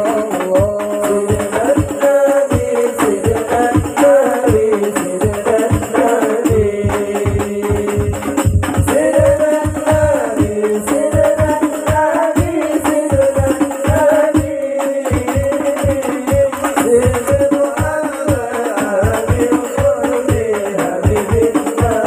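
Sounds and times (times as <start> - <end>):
frame drums playing fast rhythm: 0.0 - 22.0
men singing in a group: 0.0 - 22.0.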